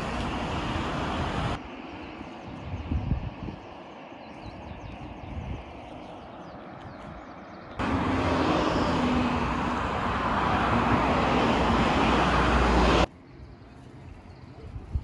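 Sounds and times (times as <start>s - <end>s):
road traffic rushing: 0.0s - 14.5s
faint outdoor ambience: 0.0s - 15.0s.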